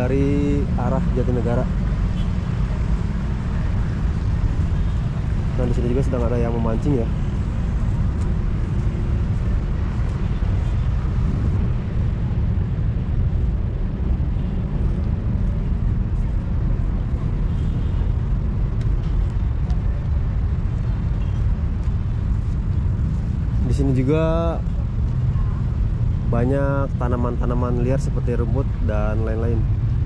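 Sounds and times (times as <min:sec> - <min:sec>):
city background rumble: 0:00.0 - 0:30.0.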